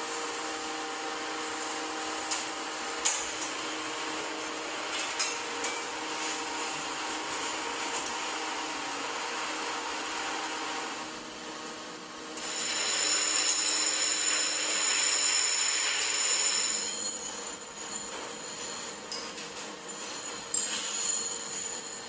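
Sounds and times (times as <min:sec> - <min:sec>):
high multi-tone machine whine: 0:00.0 - 0:22.0
workshop machinery running: 0:00.0 - 0:22.0.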